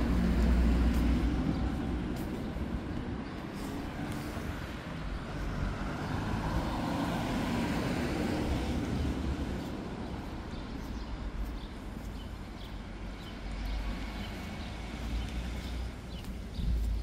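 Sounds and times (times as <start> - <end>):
car passing on wet street: 0.0 - 17.0.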